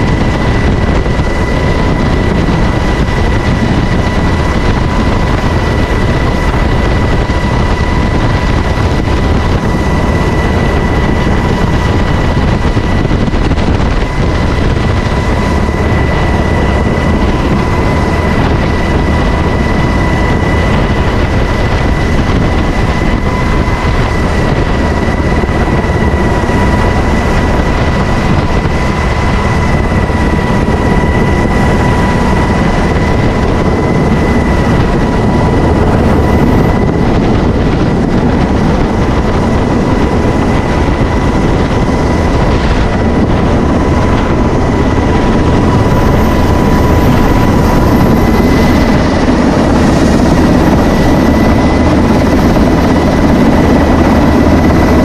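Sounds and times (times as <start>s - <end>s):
helicopter rotor and engine noise: 0.0s - 55.0s
high whine: 0.0s - 55.0s.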